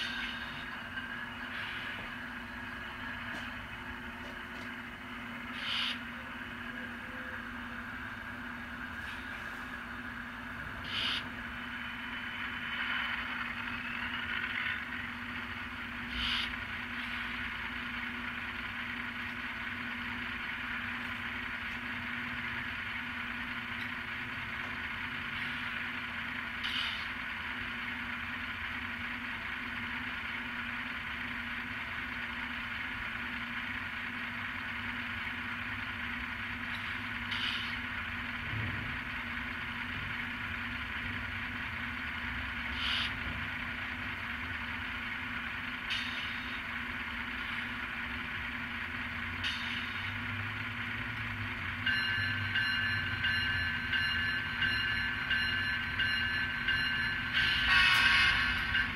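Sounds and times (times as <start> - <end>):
diesel locomotive idling sound: 0.0 - 58.9.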